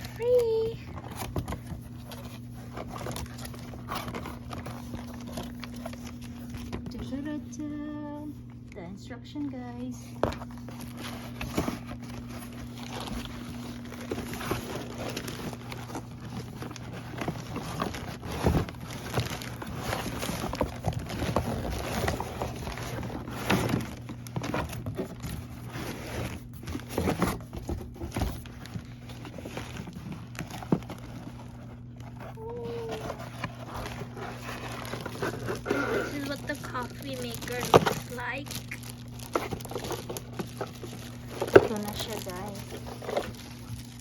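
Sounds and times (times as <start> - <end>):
cardboard packaging crinkling: 0.0 - 8.5, 9.6 - 44.0
steady low hum: 0.0 - 44.0.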